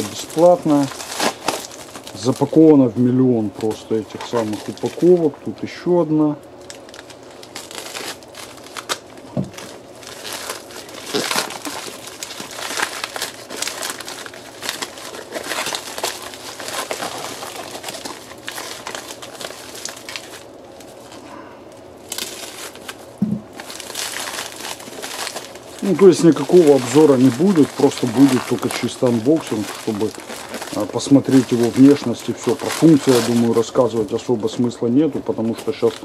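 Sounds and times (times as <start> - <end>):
knife slitting plastic bag: 0.0 - 5.3, 6.9 - 21.2, 22.0 - 34.7
plastic film crinkling: 0.0 - 36.0.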